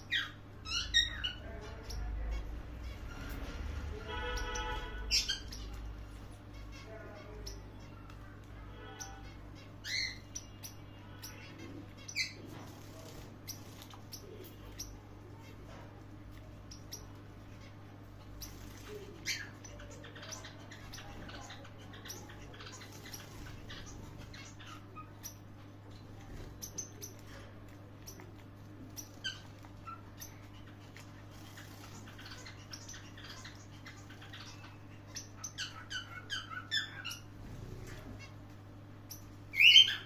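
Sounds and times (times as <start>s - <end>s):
finches chirping: 0.0s - 40.0s
low electrical hum: 0.0s - 40.0s.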